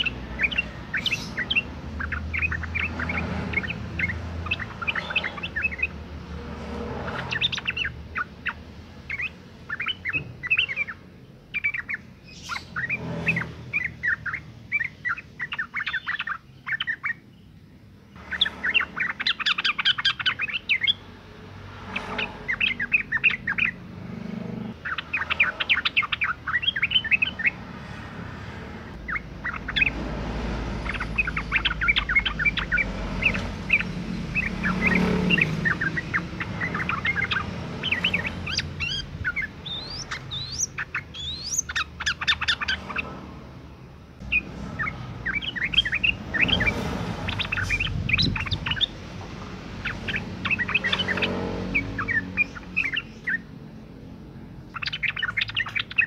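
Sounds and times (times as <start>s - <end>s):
bird chattering chirps: 0.0s - 21.1s, 21.8s - 28.1s, 28.9s - 56.0s.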